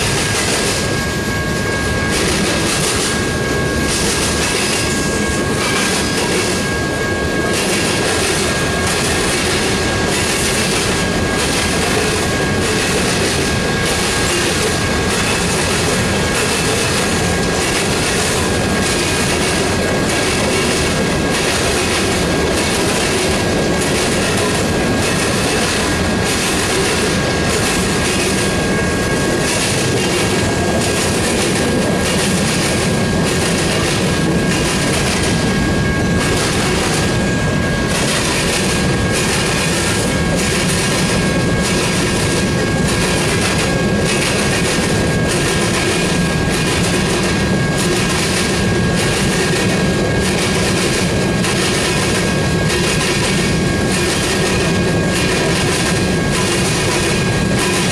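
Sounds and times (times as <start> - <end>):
train rumble and hiss: 0.0 - 57.9
train wheels clicking over rail joints: 0.0 - 57.9.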